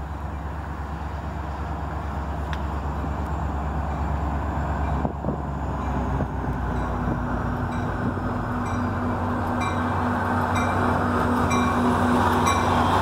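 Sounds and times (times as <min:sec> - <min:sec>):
diesel train rumble: 0:00.0 - 0:13.0.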